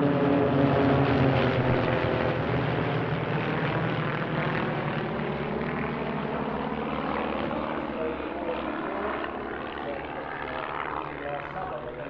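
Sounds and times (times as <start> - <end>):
propeller aircraft droning: 0.0 - 12.0.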